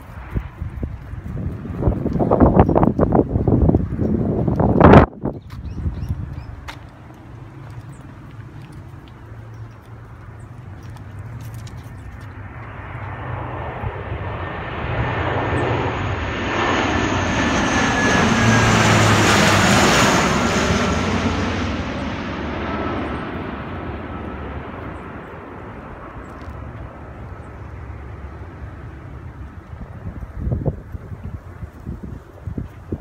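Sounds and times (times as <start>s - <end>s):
high engine whine: 0.0s - 32.3s
turboprop aircraft flying overhead: 0.0s - 33.0s.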